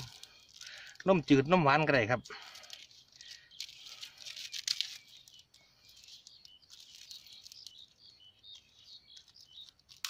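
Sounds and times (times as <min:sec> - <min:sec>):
foil packet crinkling: 0:00.0 - 0:10.0.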